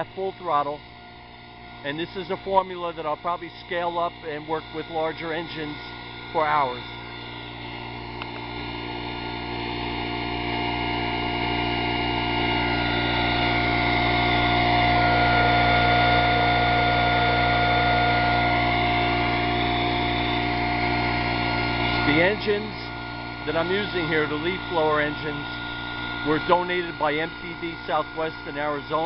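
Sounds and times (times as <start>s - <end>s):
leaf blower engine running: 0.0s - 29.0s.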